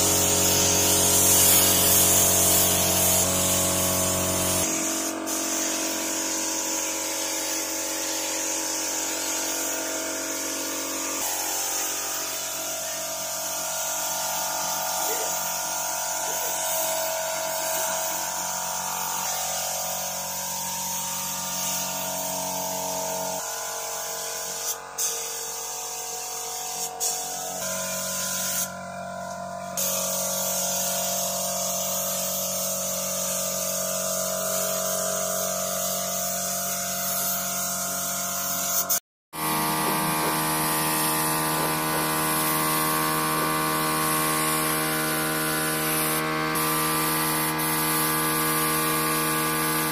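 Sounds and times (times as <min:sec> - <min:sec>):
paint spray gun hissing: 0:00.0 - 0:49.9.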